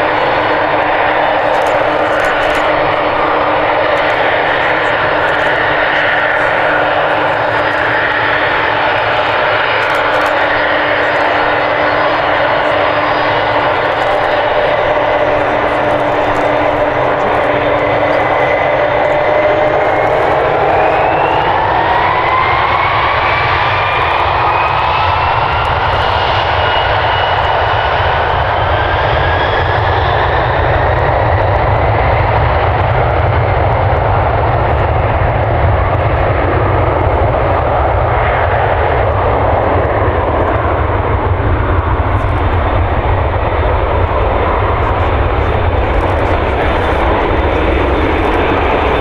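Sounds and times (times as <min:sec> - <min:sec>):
jet engines roaring with whine: 0:00.0 - 0:49.0.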